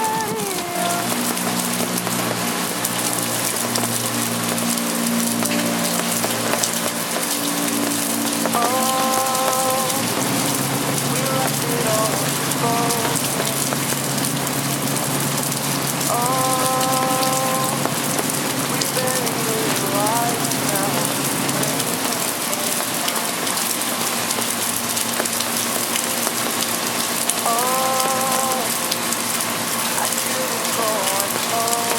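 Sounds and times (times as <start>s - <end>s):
rain on a city street: 0.0s - 31.9s.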